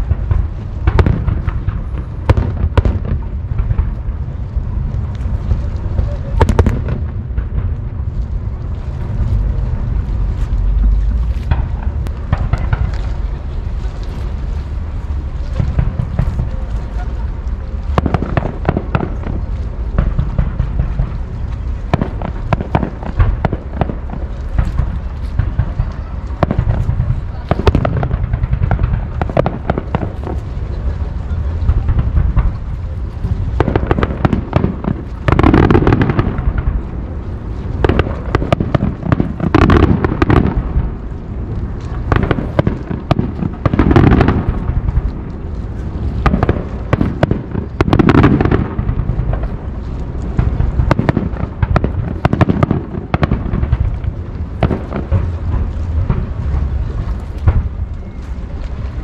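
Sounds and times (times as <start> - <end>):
fireworks crackling and popping: 0.0 - 59.0
loud fireworks bursts: 0.0 - 59.0
low rumble of fireworks booms: 0.0 - 59.0.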